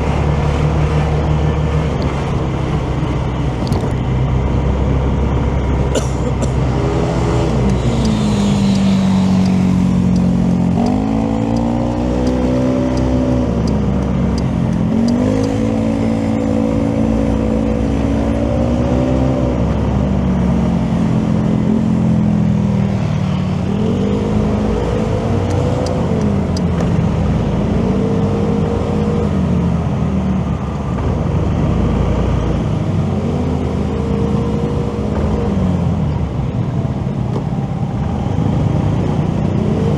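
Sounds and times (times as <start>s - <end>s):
motorcycle engine revving: 0.0s - 20.0s, 22.7s - 39.9s
low wind rumble: 0.0s - 39.9s.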